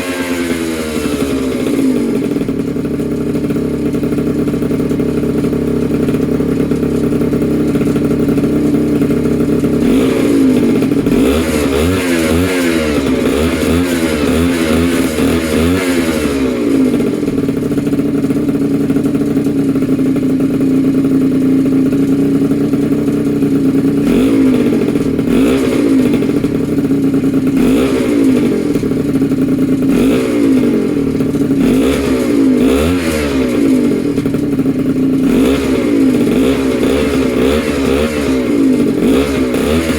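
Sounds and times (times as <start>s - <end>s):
moped engine idling and revving: 0.0s - 39.9s.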